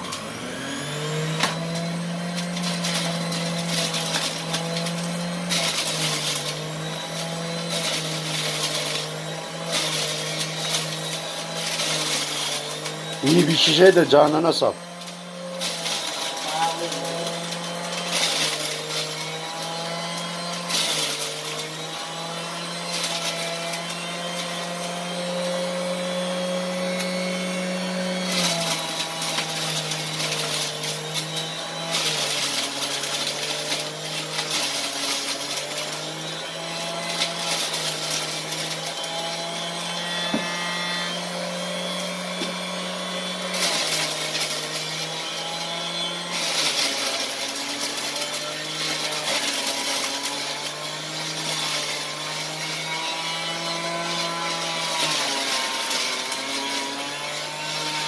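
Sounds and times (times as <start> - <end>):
electric juicer motor running: 0.0 - 58.0
harsh grinding of grapes: 0.0 - 58.0.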